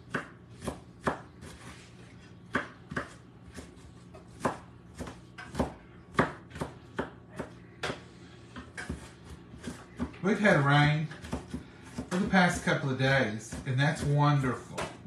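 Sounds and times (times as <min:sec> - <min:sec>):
knife chopping on wooden board: 0:00.0 - 0:01.8, 0:02.5 - 0:10.2, 0:10.8 - 0:12.7, 0:13.5 - 0:15.0.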